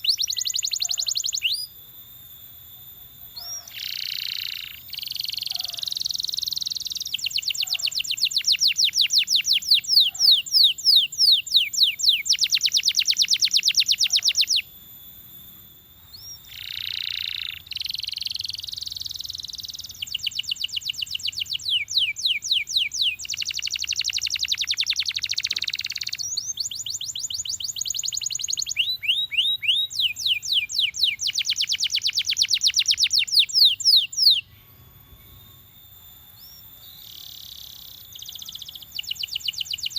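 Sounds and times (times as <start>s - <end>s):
canary singing trilled phrases: 0.0s - 1.7s, 3.2s - 14.7s, 16.1s - 35.4s, 36.4s - 39.9s.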